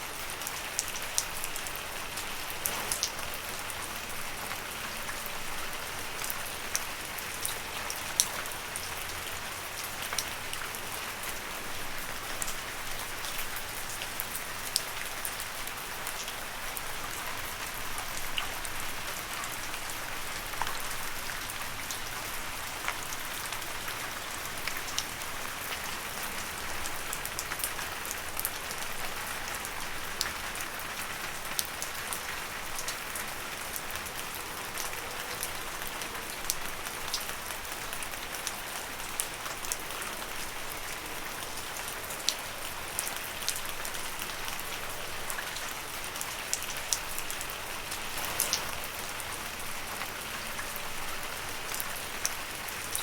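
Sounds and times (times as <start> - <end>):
rain falling on leaves: 0.0 - 53.0.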